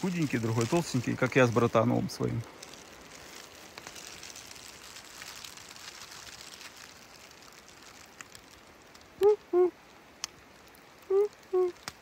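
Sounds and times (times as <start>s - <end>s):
light rain patter: 0.0s - 12.0s.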